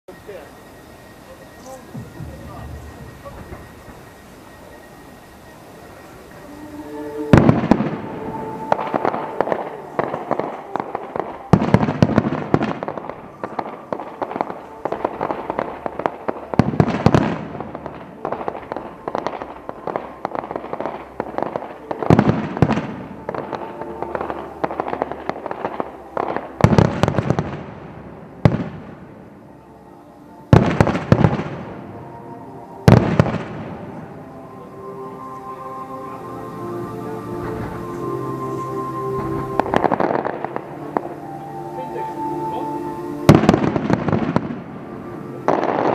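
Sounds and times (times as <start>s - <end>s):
faint music: 0.0s - 45.9s
fireworks booming: 0.1s - 29.4s, 30.5s - 34.7s, 38.9s - 42.0s, 43.3s - 45.9s
fireworks crackling: 0.1s - 45.9s.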